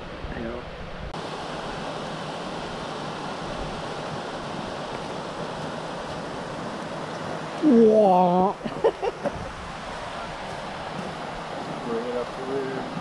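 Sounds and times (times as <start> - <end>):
water rushing over rocks: 1.2 - 13.0.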